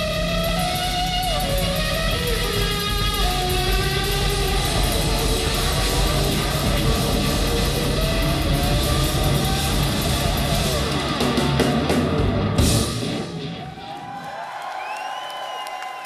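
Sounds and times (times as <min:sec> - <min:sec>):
electric guitar lead notes: 0:00.0 - 0:13.6.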